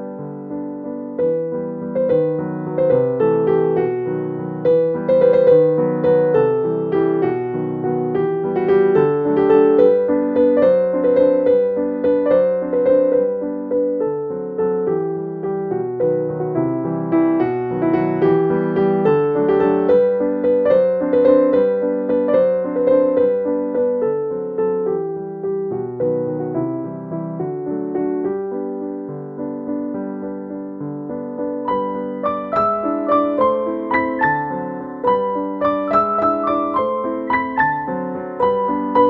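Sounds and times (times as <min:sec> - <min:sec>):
piano melody: 0:00.0 - 0:39.0.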